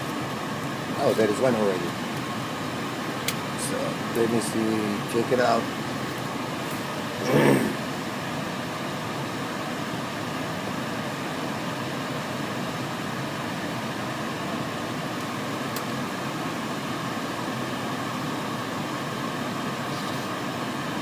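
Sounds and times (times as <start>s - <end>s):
fan-like hiss: 0.0s - 21.0s.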